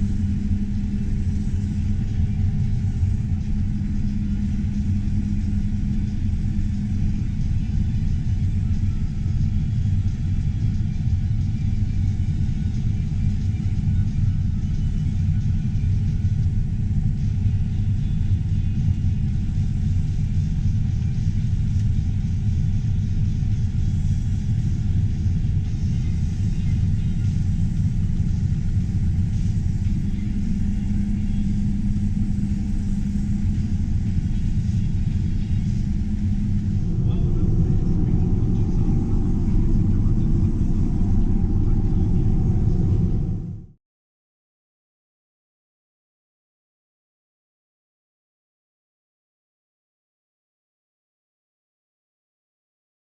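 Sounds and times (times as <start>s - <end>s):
diesel engine running under load: 0.0s - 43.7s.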